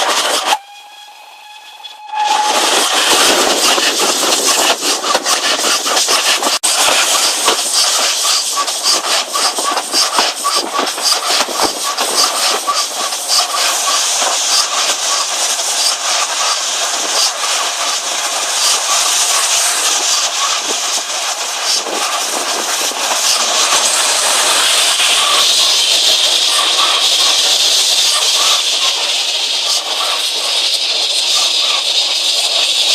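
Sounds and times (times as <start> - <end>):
steam hiss: 0.0 - 32.9
steam train running: 0.0 - 32.9.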